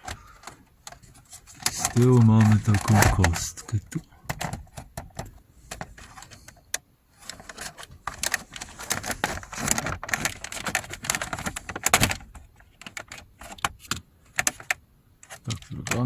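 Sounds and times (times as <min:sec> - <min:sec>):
plastic connector clicking and rattling: 0:00.0 - 0:16.0.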